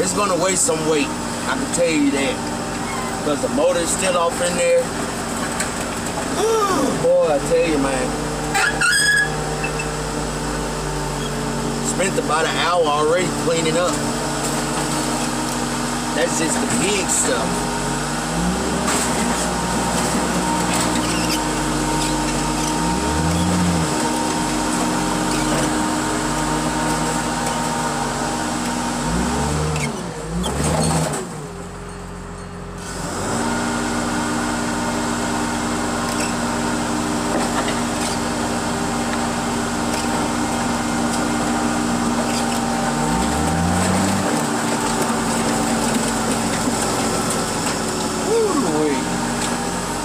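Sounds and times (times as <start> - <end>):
heavy machinery engine running: 0.0 - 50.0.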